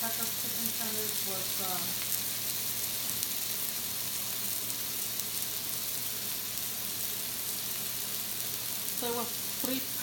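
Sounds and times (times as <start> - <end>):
chicken frying in a skillet: 0.0 - 10.0.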